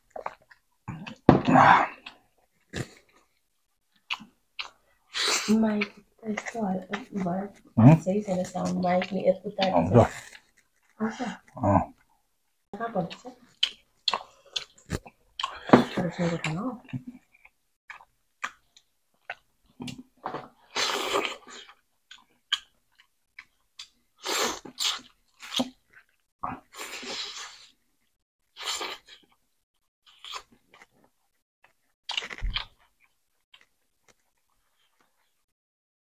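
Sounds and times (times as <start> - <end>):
close-miked chewing: 0.0 - 1.2, 1.8 - 12.2, 12.8 - 15.7, 16.3 - 27.7, 30.0 - 35.4.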